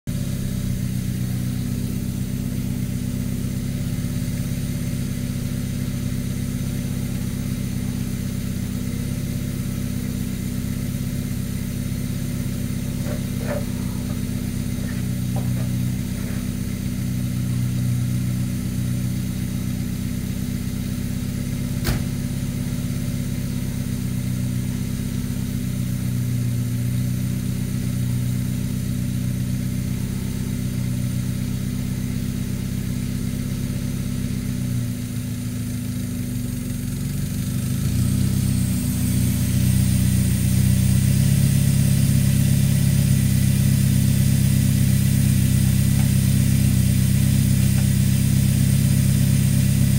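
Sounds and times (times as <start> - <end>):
car engine running: 0.1 - 49.9.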